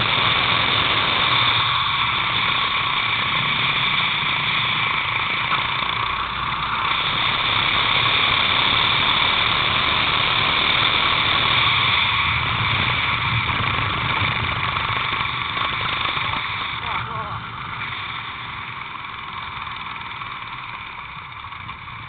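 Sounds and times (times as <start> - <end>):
kart engine whine: 0.0 - 22.0.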